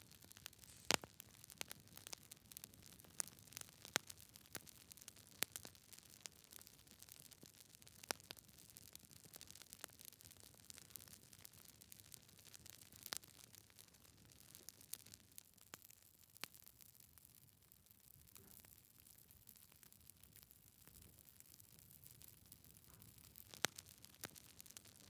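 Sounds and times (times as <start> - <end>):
wood fire crackling: 0.0 - 17.0, 21.2 - 25.0.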